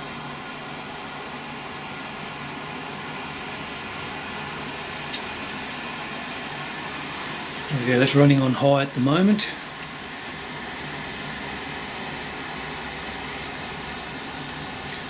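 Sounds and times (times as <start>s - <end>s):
dehumidifier fan running: 0.0s - 15.0s.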